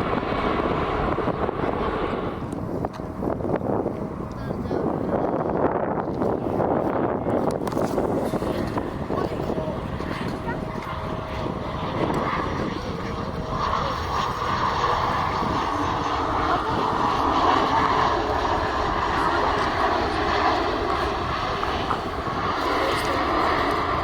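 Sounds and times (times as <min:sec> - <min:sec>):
airliner engines rushing: 0:00.0 - 0:24.0.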